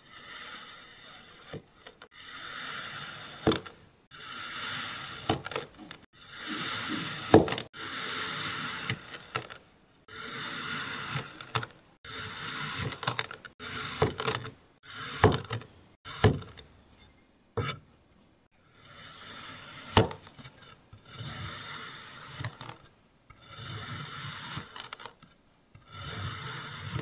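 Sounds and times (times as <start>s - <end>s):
knife cutting kinetic sand: 0.0s - 16.7s, 18.6s - 27.0s.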